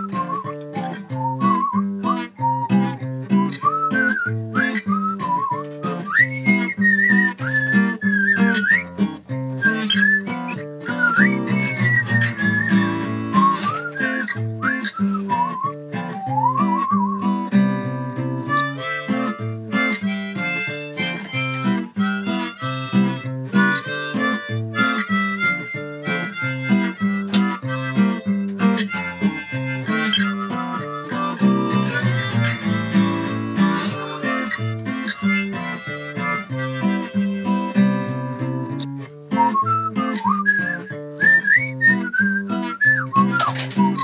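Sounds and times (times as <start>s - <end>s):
harmonica playing a tune: 0.0s - 15.6s, 18.2s - 44.0s
acoustic guitar picking: 0.0s - 44.0s.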